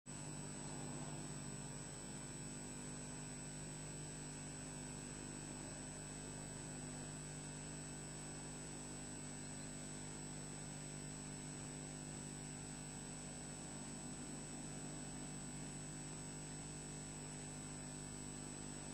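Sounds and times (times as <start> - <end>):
electrical hum and hiss: 0.1 - 18.9.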